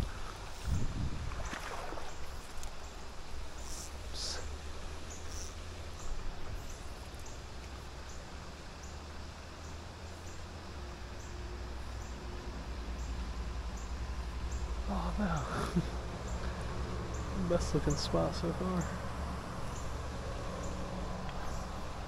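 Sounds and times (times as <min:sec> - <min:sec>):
moving water hiss: 0:00.0 - 0:22.0.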